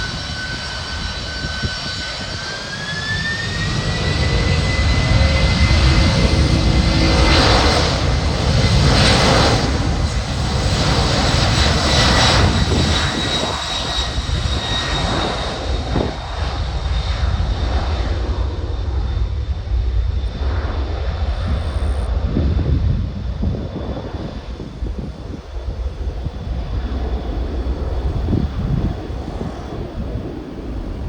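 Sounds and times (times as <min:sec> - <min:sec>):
jet engine whine: 0:00.0 - 0:31.0
jet engines rumbling: 0:00.0 - 0:31.0.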